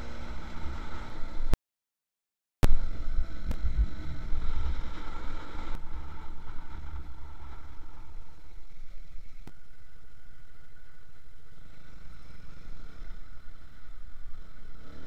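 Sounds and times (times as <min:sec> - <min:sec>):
motorcycle engine running: 0:00.0 - 0:01.6, 0:02.6 - 0:15.0
road rumble: 0:00.0 - 0:01.6, 0:02.6 - 0:15.0.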